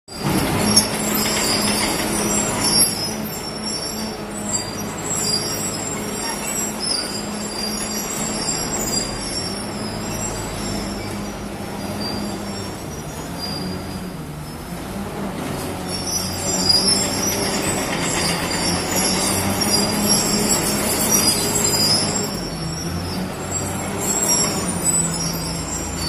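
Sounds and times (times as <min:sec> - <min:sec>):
steel tracks squealing: 0:00.1 - 0:26.0.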